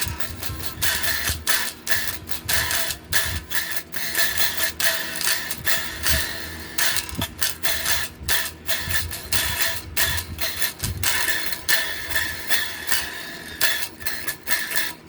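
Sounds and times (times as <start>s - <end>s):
heavy rock guitar riff: 0.0s - 15.0s.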